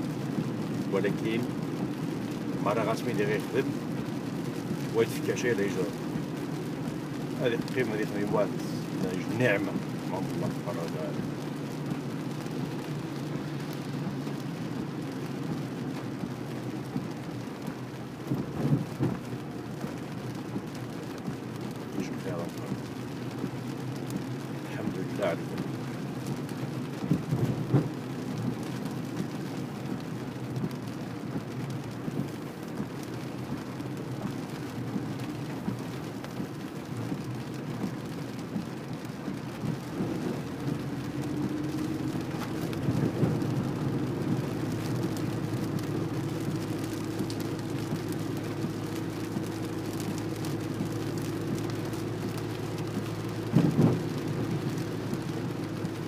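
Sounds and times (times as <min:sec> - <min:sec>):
engine and tyres on wet road: 0:00.0 - 0:56.0
rain hissing on car: 0:00.0 - 0:56.0.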